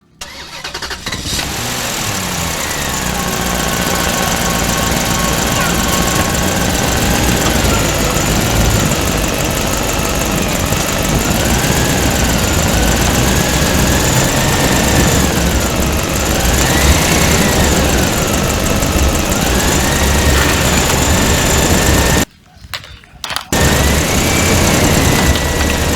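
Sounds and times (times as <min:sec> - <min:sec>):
motor running with wavering whine: 0:01.4 - 0:22.3, 0:23.6 - 0:25.9.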